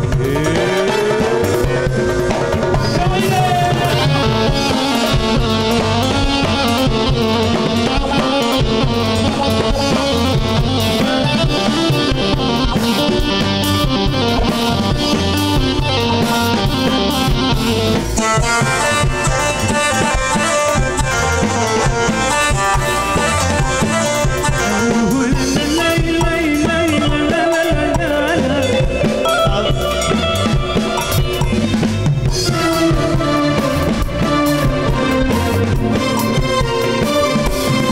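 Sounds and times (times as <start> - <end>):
drum kit beat: 0.0 - 37.9
guitar: 0.0 - 37.9
live band playing pop song: 0.0 - 37.9.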